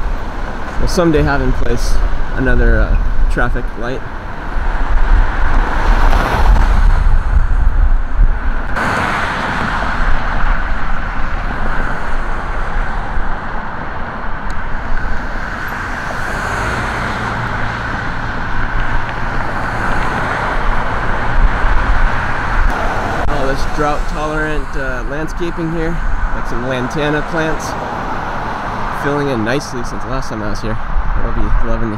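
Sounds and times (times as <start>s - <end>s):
cars passing: 0.0s - 31.9s
heavy low rumble: 0.0s - 31.9s.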